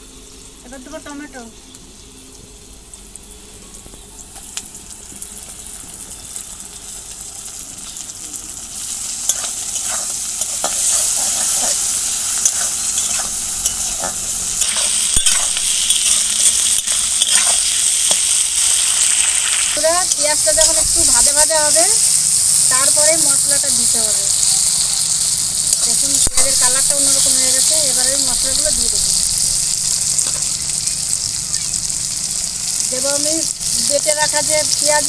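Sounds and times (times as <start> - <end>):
onions sizzling in hot oil: 0.0 - 35.0.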